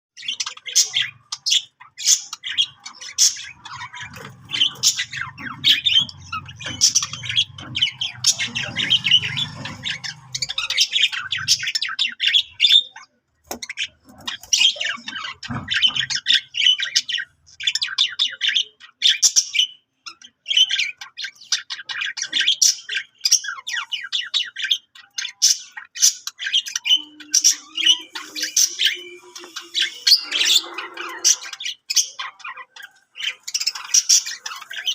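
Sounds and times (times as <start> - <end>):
budgerigars chattering and warbling: 0.2 - 34.9.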